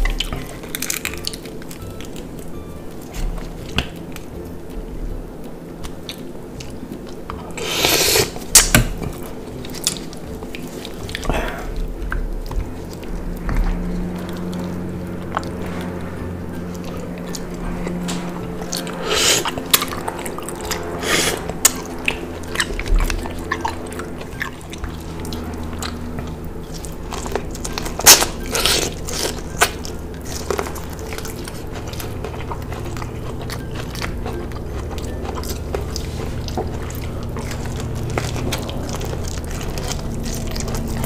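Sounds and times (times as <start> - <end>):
person chewing: 0.0 - 41.0
wet mouth sounds: 5.2 - 41.0.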